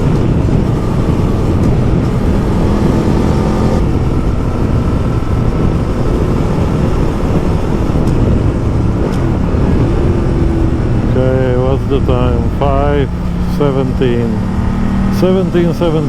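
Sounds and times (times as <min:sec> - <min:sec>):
motorcycle engine drone: 0:00.0 - 0:16.0
rushing wind noise: 0:00.0 - 0:16.0.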